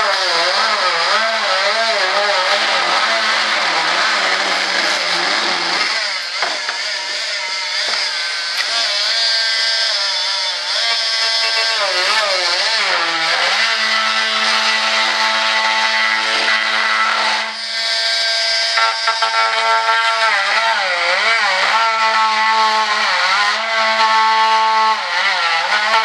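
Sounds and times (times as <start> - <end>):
power saw cutting fiberglass: 0.0 - 26.0.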